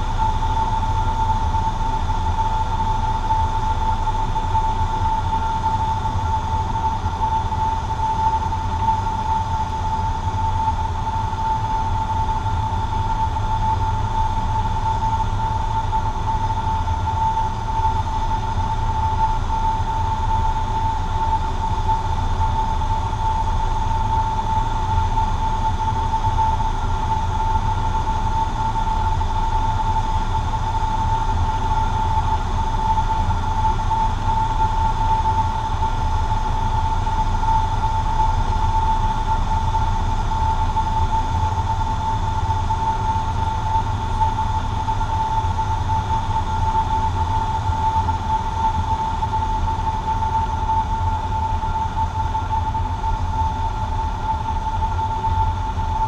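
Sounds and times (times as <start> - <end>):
airplane engine and propeller drone: 0.0 - 56.0.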